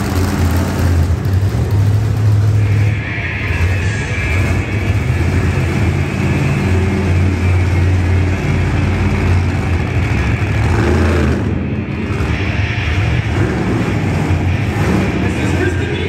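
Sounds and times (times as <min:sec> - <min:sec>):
monster truck engine running: 0:00.0 - 0:16.0.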